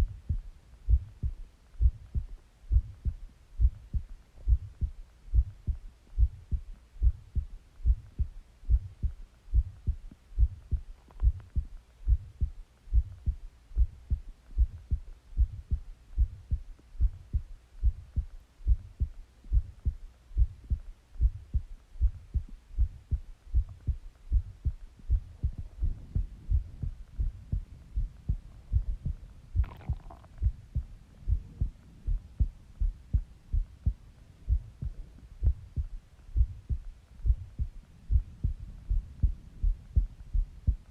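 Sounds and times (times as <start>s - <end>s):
heartbeat thumps: 0.0s - 40.9s.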